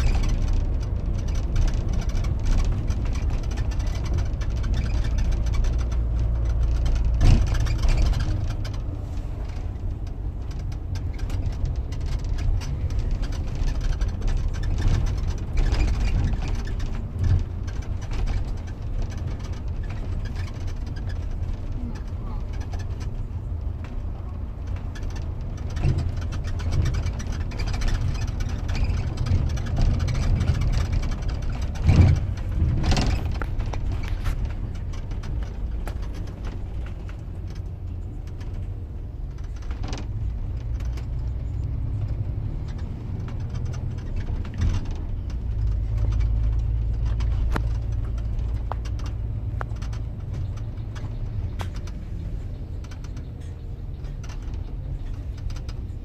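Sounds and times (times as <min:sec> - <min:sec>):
bus engine and road rumble: 0:00.0 - 0:56.0
rattles: 0:00.0 - 0:56.0.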